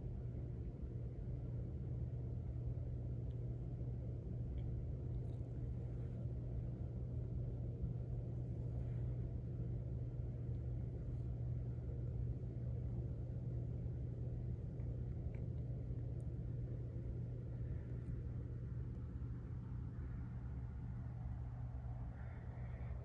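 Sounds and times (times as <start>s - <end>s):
low room noise rumble and hum: 0.0s - 23.0s.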